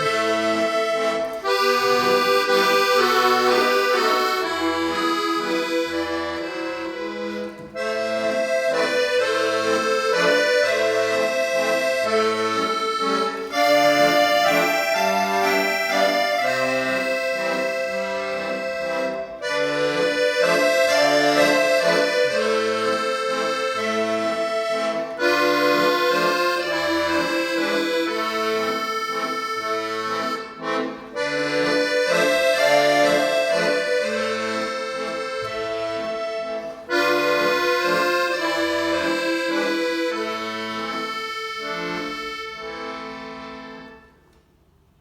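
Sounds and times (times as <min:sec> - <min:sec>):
accordion melody: 0:00.0 - 0:45.0.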